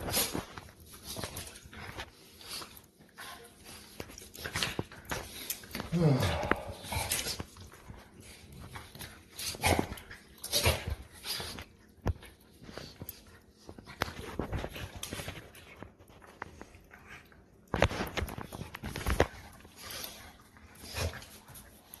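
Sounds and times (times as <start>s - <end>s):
dogs play-fighting: 0.0s - 22.0s.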